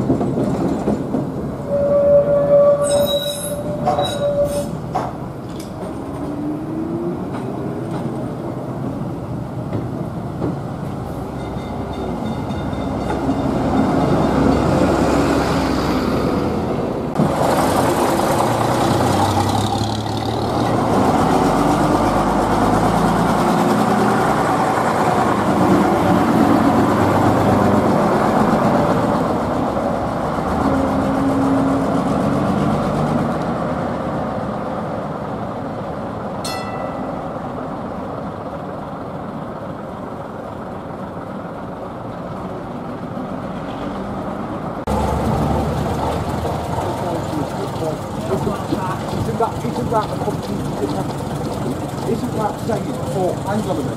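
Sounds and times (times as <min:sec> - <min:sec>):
bus diesel engines running: 0:02.6 - 0:53.9.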